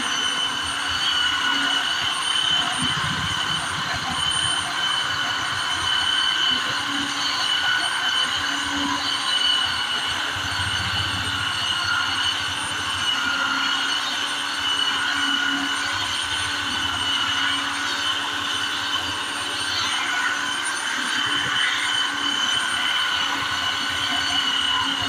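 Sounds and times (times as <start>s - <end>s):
belt sander whining: 0.0s - 25.0s.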